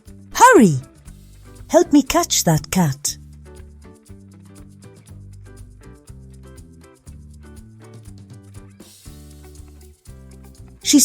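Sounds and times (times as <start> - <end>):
light bouncy background music: 0.0 - 11.0.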